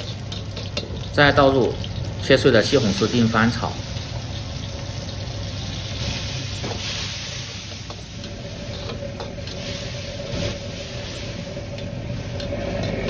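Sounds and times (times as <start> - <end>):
metal ladle scraping wok: 0.0 - 1.1, 1.8 - 13.0
gas stove rumble: 0.0 - 13.0
tomatoes sizzling in hot oil: 0.0 - 13.0.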